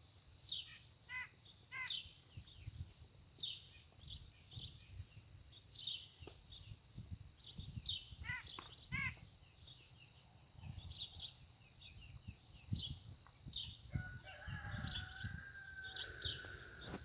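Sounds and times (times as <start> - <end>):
birds chirping: 0.5 - 17.0.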